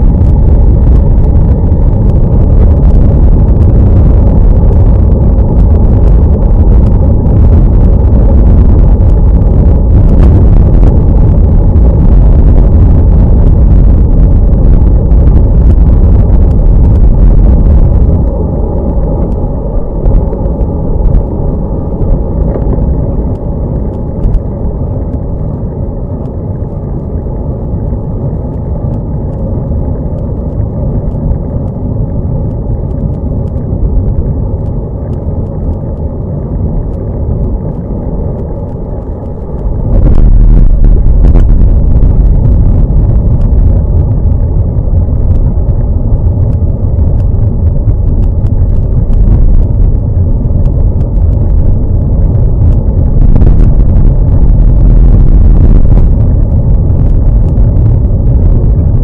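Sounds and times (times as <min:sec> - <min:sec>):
road rumble: 0:00.0 - 0:59.0
wind buffeting: 0:00.0 - 0:59.0.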